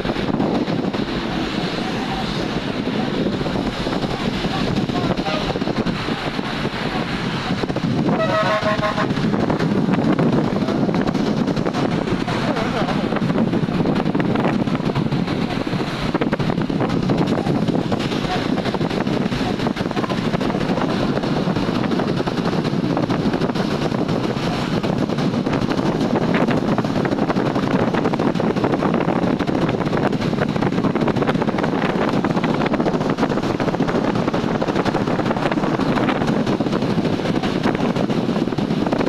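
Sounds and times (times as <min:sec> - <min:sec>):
highway traffic noise: 0:00.0 - 0:39.0.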